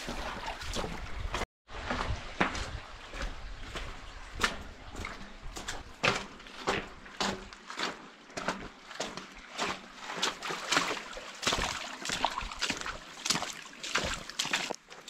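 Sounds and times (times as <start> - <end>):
footsteps on wet gravel: 0.0 - 15.0
light water splashing: 0.0 - 15.0.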